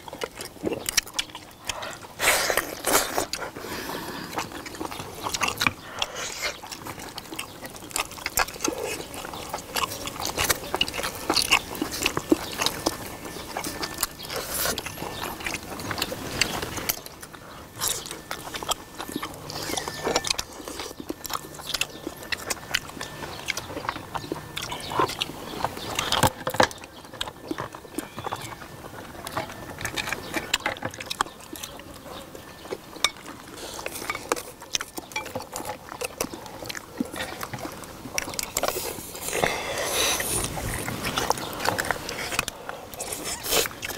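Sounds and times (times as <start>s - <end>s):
people chewing food: 0.0s - 43.9s.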